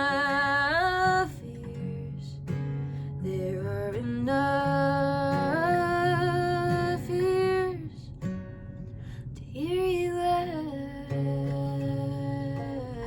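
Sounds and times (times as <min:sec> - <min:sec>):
woman singing wordlessly: 0:00.0 - 0:02.5, 0:03.2 - 0:08.1, 0:09.5 - 0:13.0
acoustic guitar: 0:00.0 - 0:13.0.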